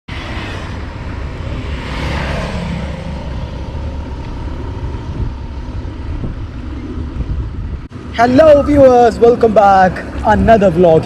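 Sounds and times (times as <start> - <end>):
vehicle passing: 0.1 - 10.5
traffic rumble: 0.1 - 11.0.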